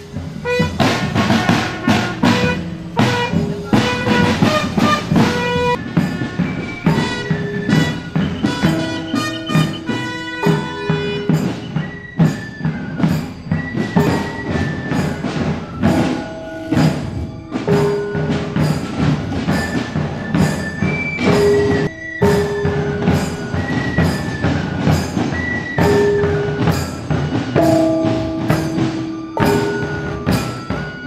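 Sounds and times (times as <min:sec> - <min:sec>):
flute melody: 0:00.0 - 0:31.0
steady drum beats: 0:00.0 - 0:31.0.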